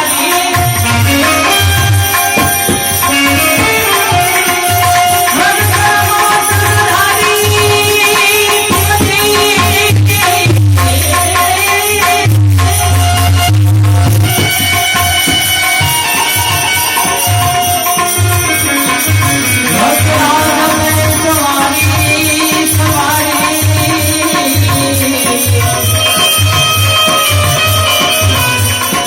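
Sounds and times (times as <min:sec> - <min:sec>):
hand drum beat: 0:00.0 - 0:29.0
sustained melody instrument: 0:00.0 - 0:29.0.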